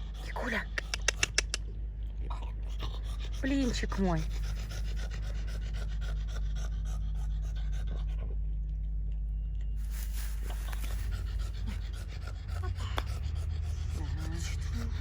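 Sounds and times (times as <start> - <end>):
dog panting quickly: 0.0 - 1.7, 2.7 - 8.4, 9.8 - 15.0.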